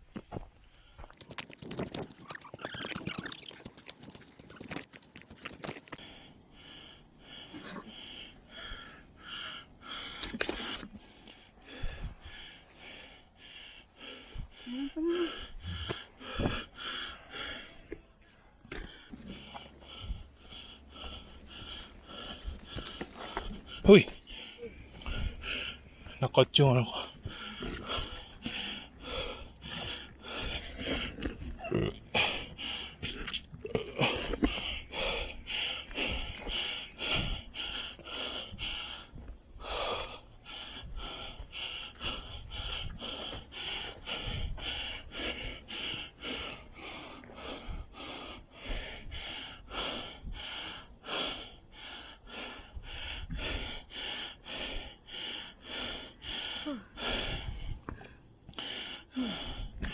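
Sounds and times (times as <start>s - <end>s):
person breathing hard: 3.8s - 59.9s.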